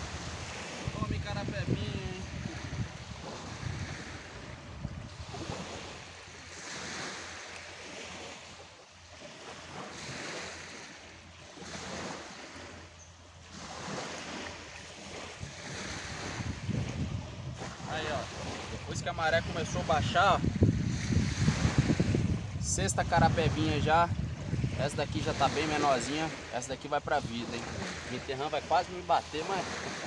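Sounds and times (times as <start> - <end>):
surf breaking on beach: 0.0 - 8.4, 13.5 - 30.0
wind rumble on microphone: 0.0 - 8.7, 9.3 - 28.4.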